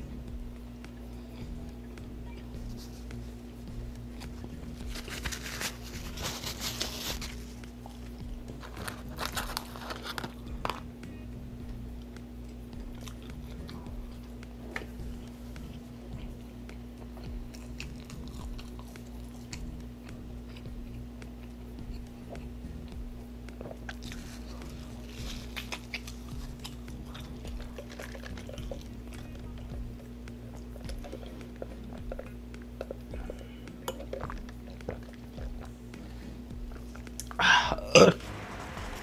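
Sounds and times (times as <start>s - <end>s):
wet crunchy chewing: 2.7s - 10.9s, 12.8s - 37.4s.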